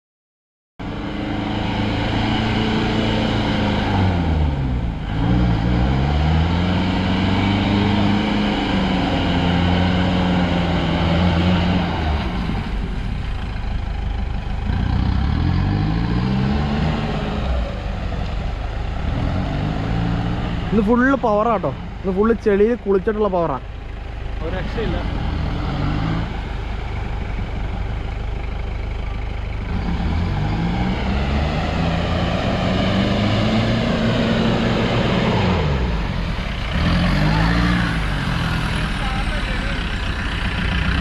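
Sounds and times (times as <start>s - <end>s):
off-road engine revving: 0.8s - 41.0s.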